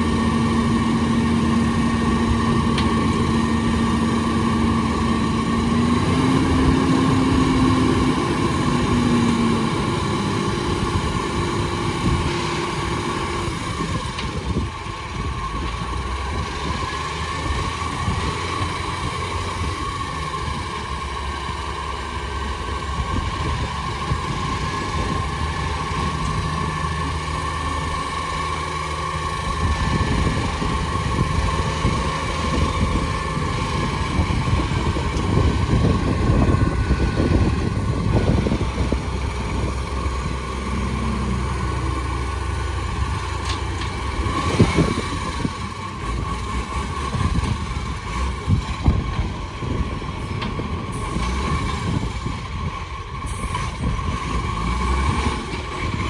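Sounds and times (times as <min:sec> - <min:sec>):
diesel truck engine revving: 0:00.0 - 0:56.0
hydraulic whine: 0:00.0 - 0:56.0.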